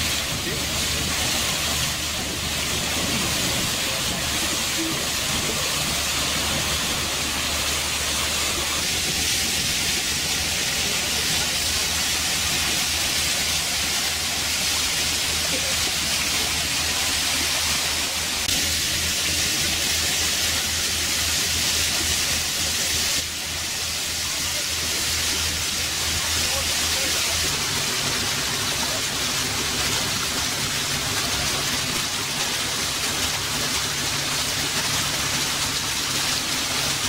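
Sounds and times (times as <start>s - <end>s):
low engine drone: 0.0s - 37.0s
water and wind rushing: 0.0s - 37.0s.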